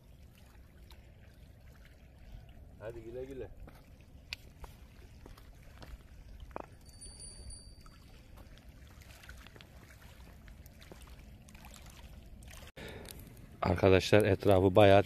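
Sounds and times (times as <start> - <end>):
lake water lapping at shore: 0.0 - 15.0.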